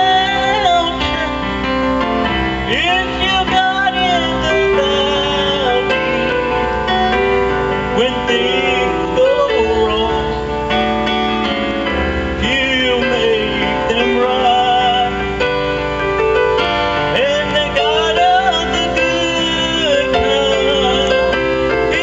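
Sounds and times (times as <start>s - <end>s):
man singing into a microphone: 0.0s - 10.8s, 11.9s - 15.6s, 17.0s - 22.0s
electronic keyboard chords: 0.0s - 22.0s.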